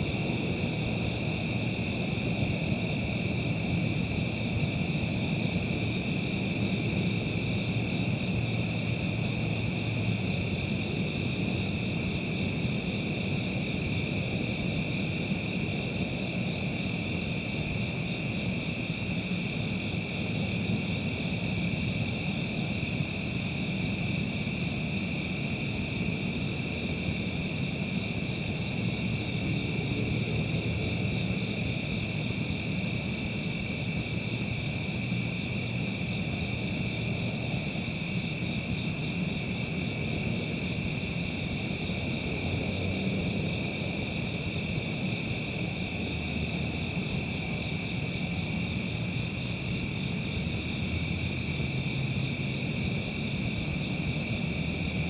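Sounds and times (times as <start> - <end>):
night insects shrilling: 0.0 - 55.0.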